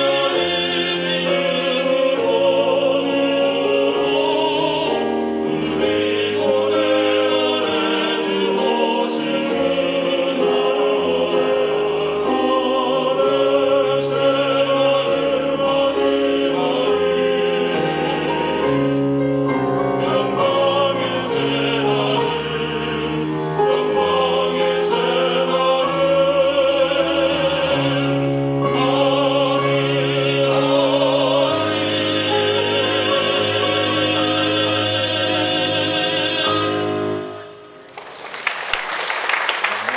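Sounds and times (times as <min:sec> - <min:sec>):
vocal trio singing a hymn: 0:00.0 - 0:37.8.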